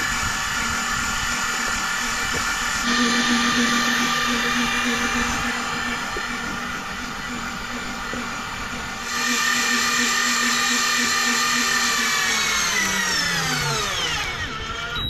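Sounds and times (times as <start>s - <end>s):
electric fishing reel motor whining: 0.0s - 15.0s.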